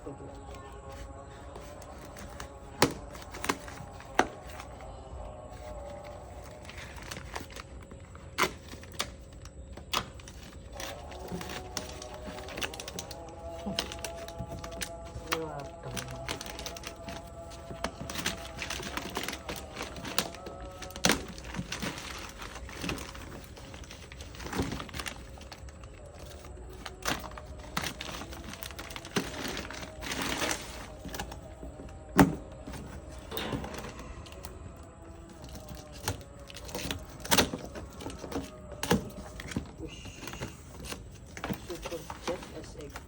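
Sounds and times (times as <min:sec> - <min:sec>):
packaging knocks and rustles: 0:00.1 - 0:43.0.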